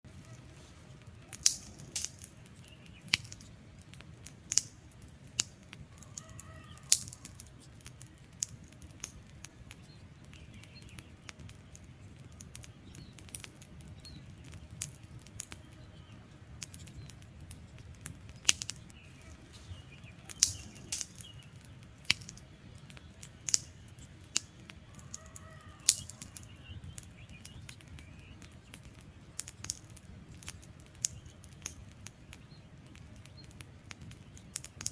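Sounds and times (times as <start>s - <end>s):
wood fire crackling: 0.0s - 34.9s
faint bird chirps: 0.1s - 4.9s, 5.9s - 34.9s.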